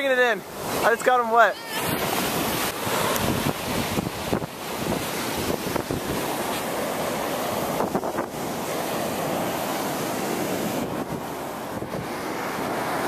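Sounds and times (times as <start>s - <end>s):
ocean surf washing up beach: 0.0s - 13.0s
wind buffeting microphone: 1.8s - 13.0s.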